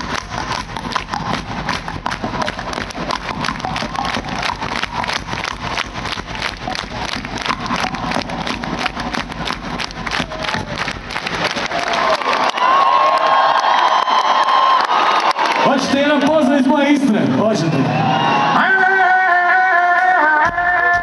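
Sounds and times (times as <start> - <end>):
live music: 0.0 - 12.9, 15.0 - 21.0
crowd clapping along: 0.0 - 17.1.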